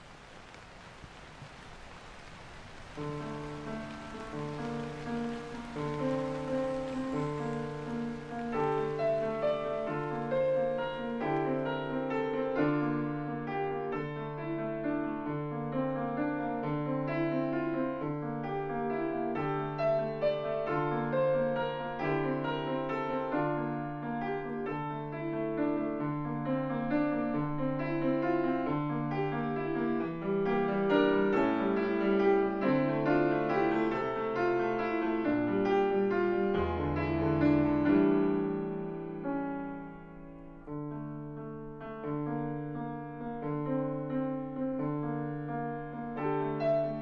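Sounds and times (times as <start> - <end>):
slow gentle piano melody: 0.0 - 47.0.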